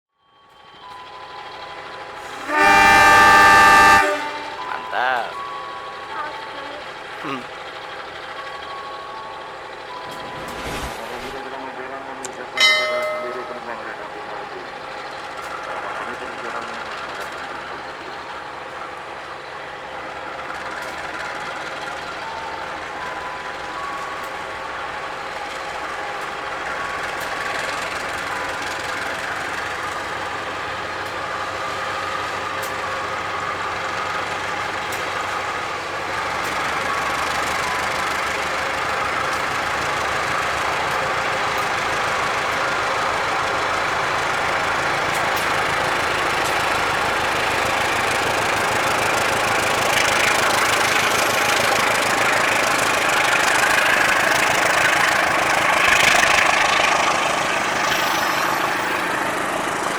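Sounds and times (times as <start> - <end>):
diesel locomotive engine running: 0.1 - 59.9.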